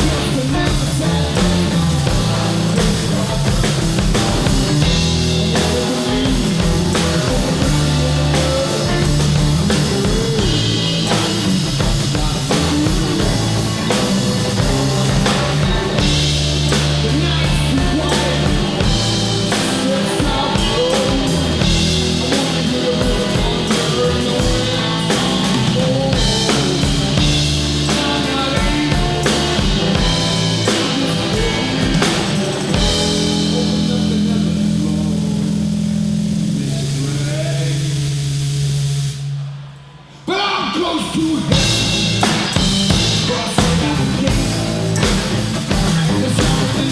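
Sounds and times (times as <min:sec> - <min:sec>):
live blues-rock band: 0:00.0 - 0:39.8, 0:41.0 - 0:46.9.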